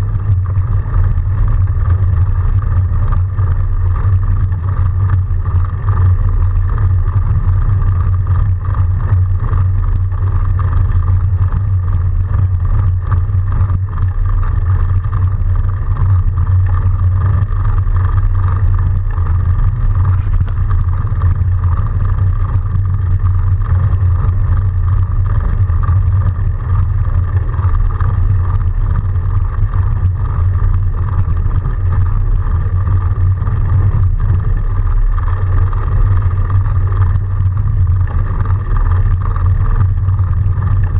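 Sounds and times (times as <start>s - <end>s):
electric bike riding rumble and hum: 0.0s - 40.9s.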